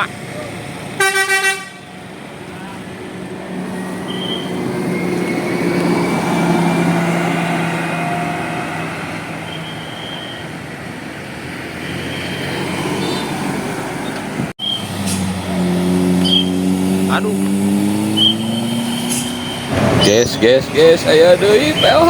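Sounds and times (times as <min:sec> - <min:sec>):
heavy vehicle passing: 0:01.9 - 0:09.5, 0:10.8 - 0:22.0.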